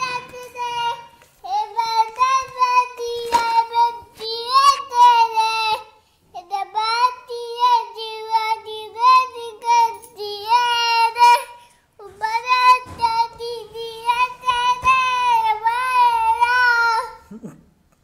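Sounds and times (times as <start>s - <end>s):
young child singing: 0.0s - 17.2s.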